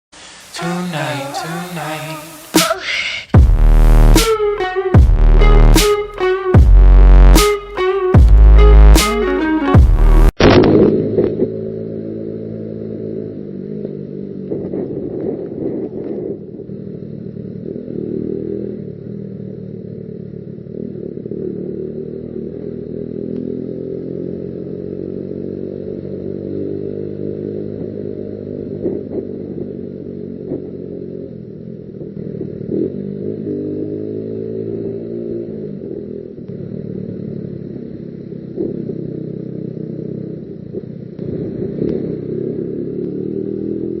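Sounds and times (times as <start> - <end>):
motorcycle engine running: 3.4 - 44.0.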